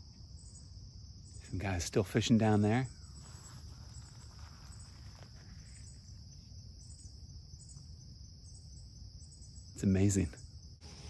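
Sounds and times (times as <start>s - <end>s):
insect trill: 0.0s - 11.0s
pulsing higher insect trill: 0.0s - 11.0s.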